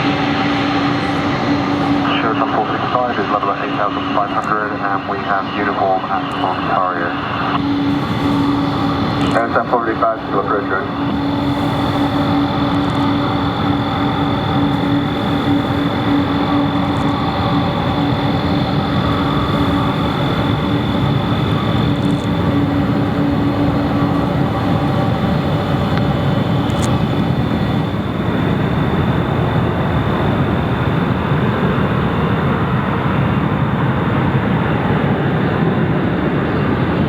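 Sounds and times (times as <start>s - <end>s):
jet engine whine: 0.0s - 37.0s
jet engines rumbling: 0.0s - 37.0s.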